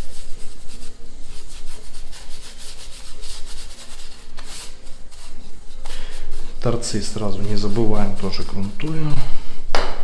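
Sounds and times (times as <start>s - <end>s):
brush scrubbing a stone tile: 0.0s - 9.0s.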